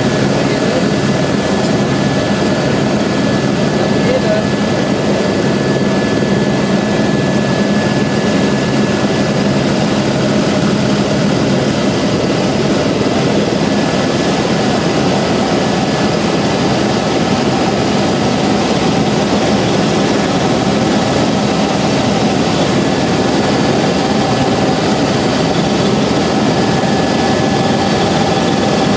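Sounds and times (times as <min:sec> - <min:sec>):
helicopter engine and rotors droning: 0:00.0 - 0:28.9.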